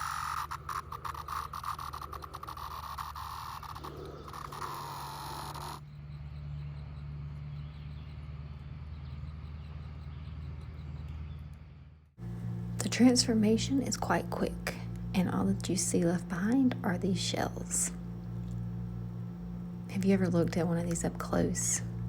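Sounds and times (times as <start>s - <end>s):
cicadas droning: 0.0s - 11.1s, 12.2s - 22.0s
low steady hum: 0.0s - 22.0s.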